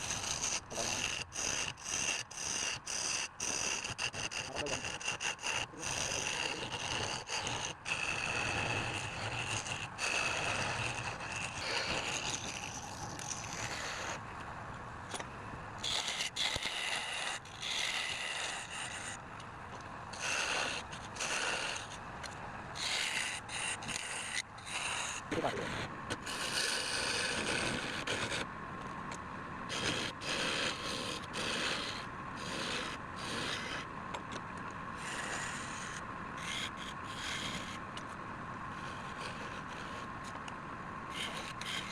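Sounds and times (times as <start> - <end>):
lathe tool scraping spinning wood: 0.0 - 14.2, 15.8 - 19.2, 20.1 - 28.5, 29.7 - 33.9, 35.0 - 37.8, 41.1 - 41.9.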